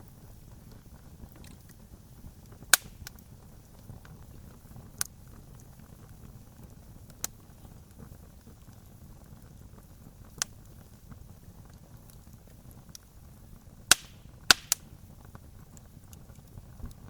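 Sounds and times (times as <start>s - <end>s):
campfire crackling: 0.0s - 17.0s
fire rumbling: 0.0s - 17.0s
sharp fire pops: 0.0s - 17.0s.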